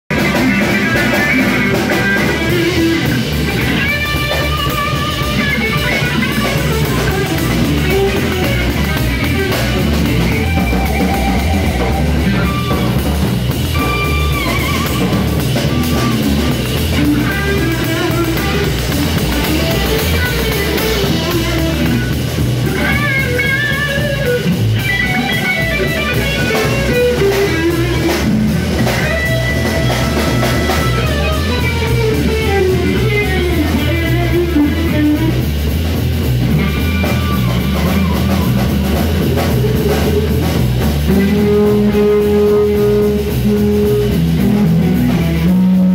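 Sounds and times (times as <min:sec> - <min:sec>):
bass guitar: 0:00.0 - 0:45.9
drum kit: 0:00.1 - 0:45.9
electric guitar melody: 0:00.1 - 0:45.9.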